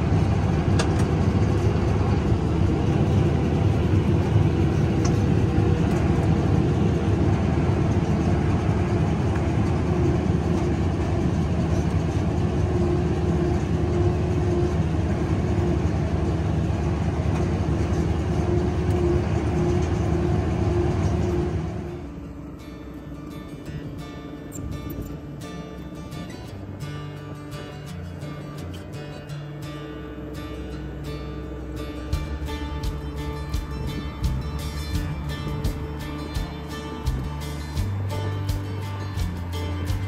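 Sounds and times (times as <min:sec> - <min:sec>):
tractor engine droning: 0:00.0 - 0:40.0.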